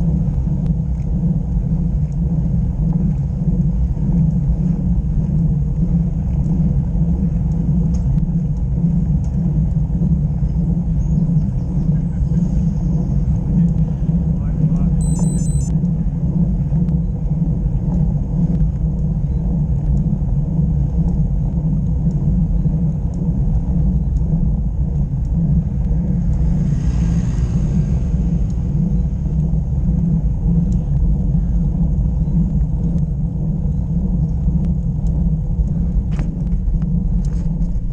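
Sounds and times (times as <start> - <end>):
wind rumble on microphone: 0.0 - 37.9.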